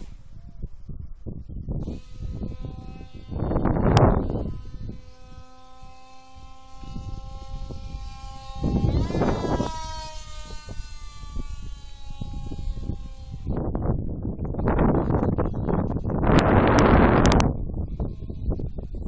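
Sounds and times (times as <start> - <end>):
electric motor and propeller whining: 0.0 - 19.0
wind buffeting microphone: 0.0 - 19.0.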